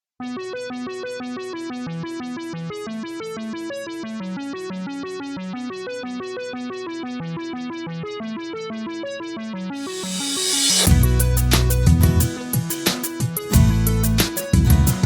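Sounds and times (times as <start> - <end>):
synthesizer melody: 0.2 - 14.2.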